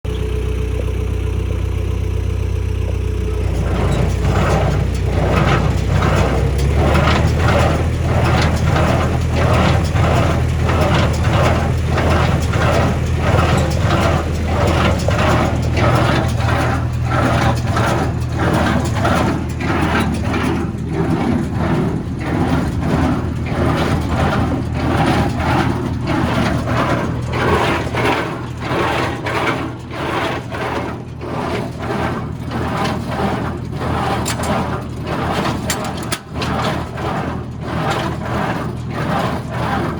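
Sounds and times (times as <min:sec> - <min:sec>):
tractor engine hum: 0:00.0 - 0:39.9
baler mechanical knocking: 0:00.1 - 0:39.9.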